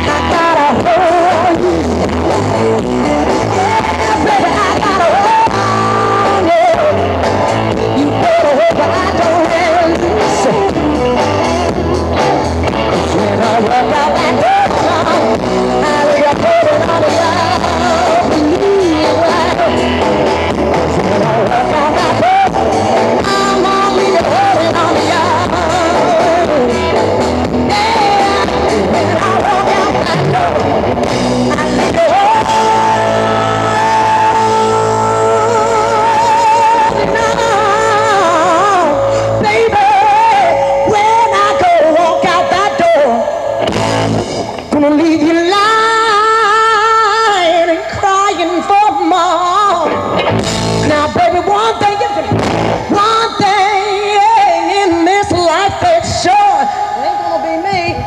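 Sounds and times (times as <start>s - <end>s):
woman singing: 0.0s - 11.1s, 12.7s - 30.8s, 31.4s - 43.6s, 44.7s - 50.2s, 50.8s - 58.0s
blues-rock band playing: 0.0s - 58.0s.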